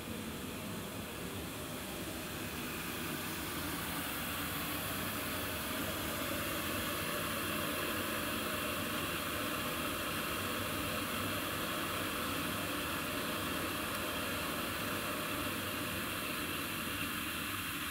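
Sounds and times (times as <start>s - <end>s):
gas heater hissing: 0.0s - 17.9s.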